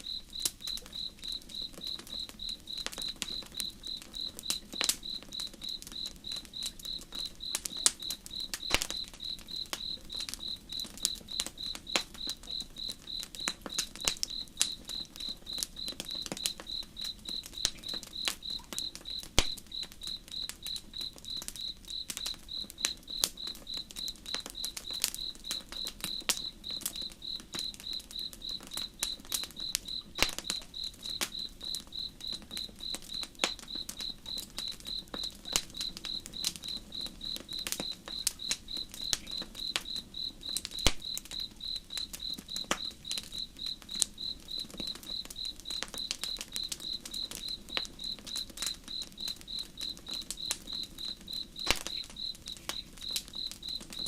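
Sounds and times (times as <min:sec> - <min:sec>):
campfire crackling: 0:00.0 - 0:54.0
cricket chirping: 0:00.0 - 0:54.0.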